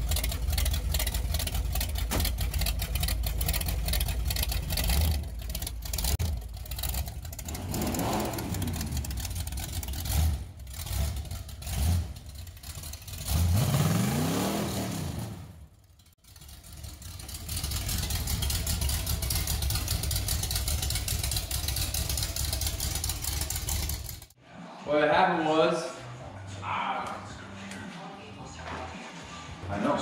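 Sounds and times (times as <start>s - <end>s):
engine revving: 0.0s - 24.4s.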